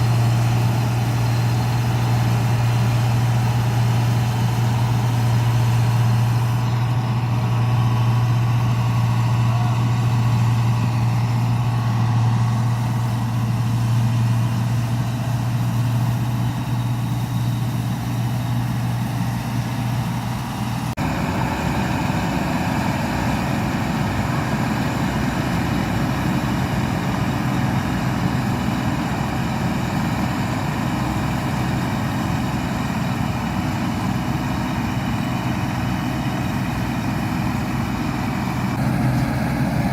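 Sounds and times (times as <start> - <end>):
combine harvester engine droning: 0.0 - 39.9
rough machine noise: 0.0 - 39.9.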